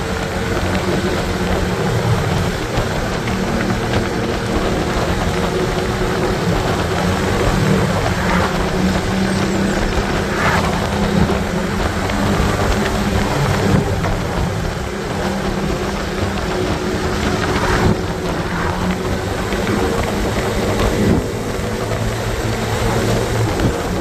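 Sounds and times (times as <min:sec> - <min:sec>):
motorcycle engine humming: 0:00.0 - 0:24.0
wind buffeting microphone: 0:00.0 - 0:24.0.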